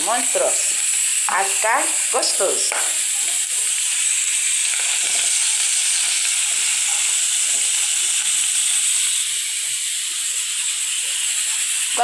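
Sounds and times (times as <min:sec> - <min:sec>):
sausage and chicken sizzling in pans: 0:00.0 - 0:12.0.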